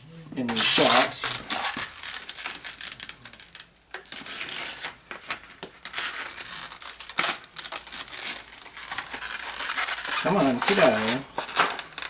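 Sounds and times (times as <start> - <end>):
crinkling and rustling: 0.4 - 12.0.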